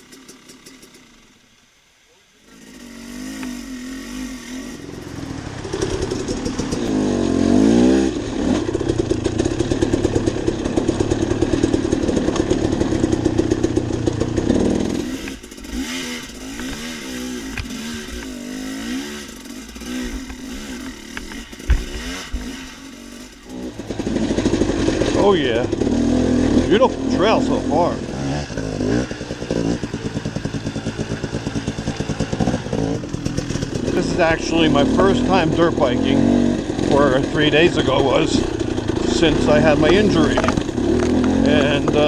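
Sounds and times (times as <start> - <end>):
dirt bike engine revving: 0.0 - 1.5, 2.3 - 42.0.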